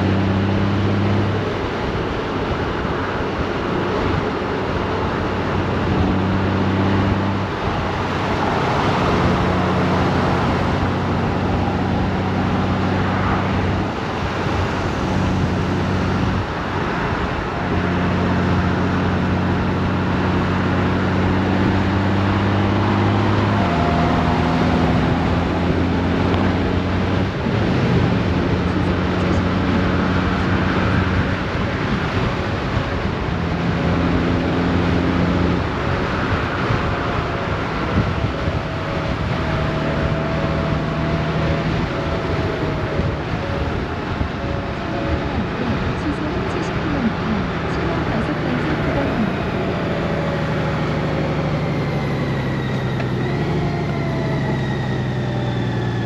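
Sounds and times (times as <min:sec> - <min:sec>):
motorcycle engine cruising: 0:00.0 - 0:56.0
road noise: 0:00.0 - 0:56.0
wind noise: 0:00.0 - 0:56.0.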